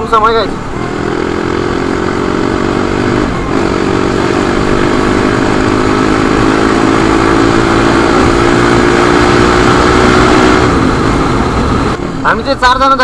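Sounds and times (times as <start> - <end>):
dirt bike engine running: 0.8 - 12.1.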